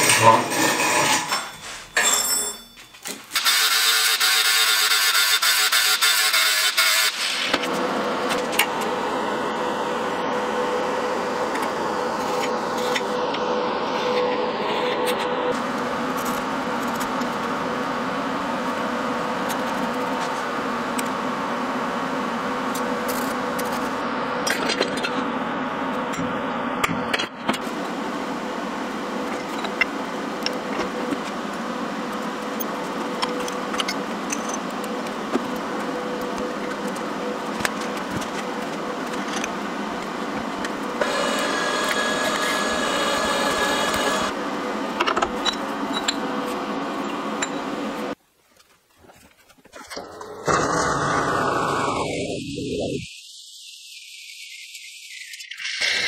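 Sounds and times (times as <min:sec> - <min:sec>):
shop machinery running: 0:00.0 - 0:48.2, 0:49.8 - 0:53.0.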